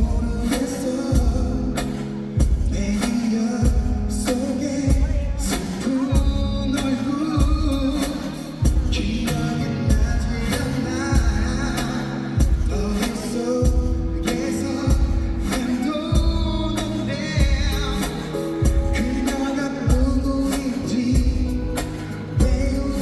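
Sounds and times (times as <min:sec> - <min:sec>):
man singing: 0:00.0 - 0:23.0
pop song through sound system: 0:00.0 - 0:23.0.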